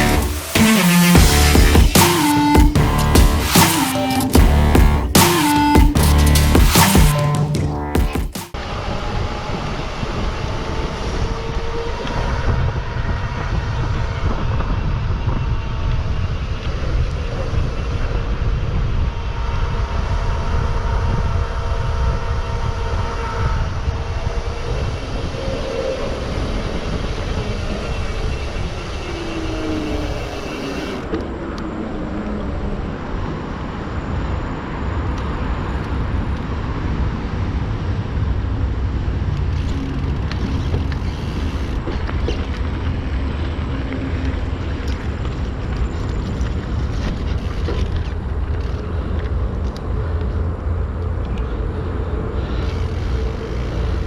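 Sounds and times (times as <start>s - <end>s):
wind and tyre rumble: 8.6s - 54.0s.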